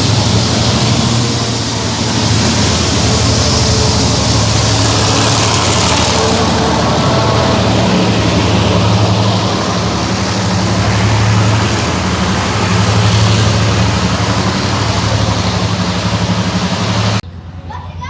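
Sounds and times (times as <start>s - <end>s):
heavy engine humming: 0.0s - 18.0s.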